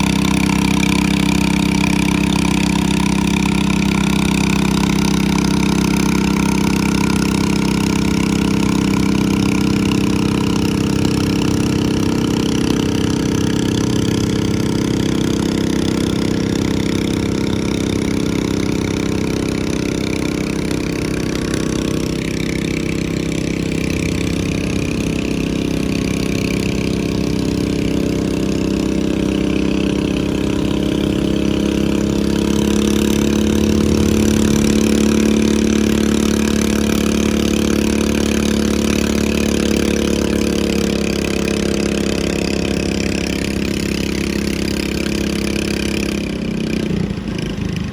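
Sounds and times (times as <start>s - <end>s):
lawn mower engine running hard: 0.0s - 47.9s.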